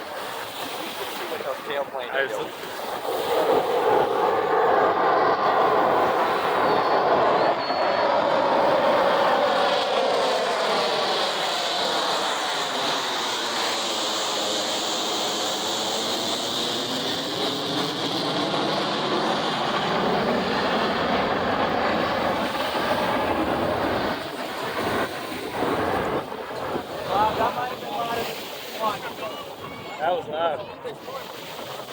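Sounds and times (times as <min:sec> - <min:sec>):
jet engine passing: 0:00.0 - 0:31.9.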